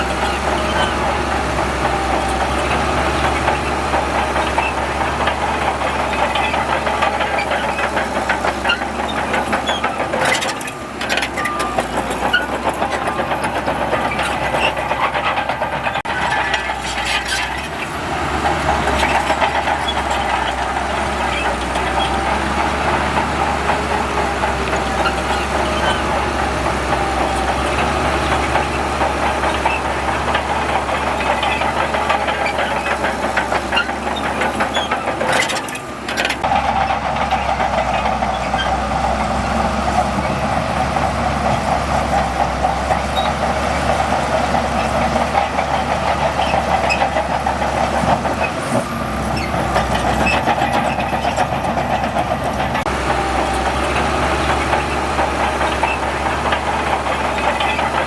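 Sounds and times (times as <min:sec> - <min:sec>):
heavy diesel machinery clattering: 0:00.0 - 0:58.0.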